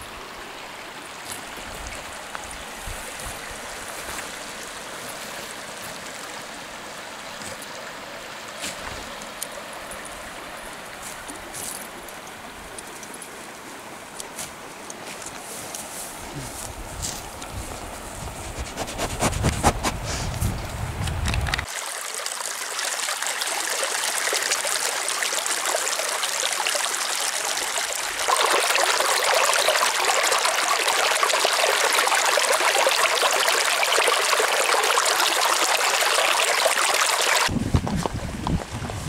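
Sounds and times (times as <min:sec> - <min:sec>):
stream babbling over stones: 0:00.0 - 0:15.0, 0:21.3 - 0:39.0.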